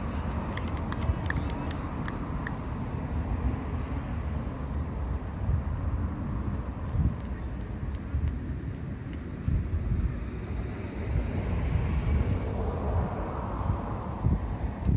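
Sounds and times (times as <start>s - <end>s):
road traffic rumble: 0.0s - 14.9s.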